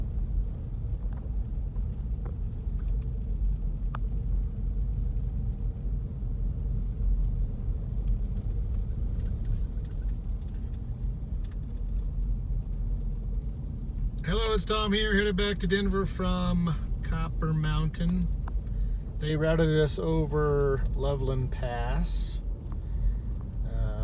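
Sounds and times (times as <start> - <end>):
car rumble from inside cabin: 0.0 - 24.0.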